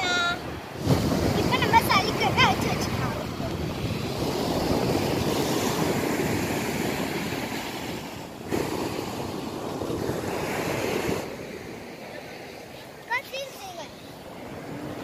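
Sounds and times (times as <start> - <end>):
sea surf washing onto beach: 0.0 - 15.0
wind buffeting microphone: 0.0 - 15.0.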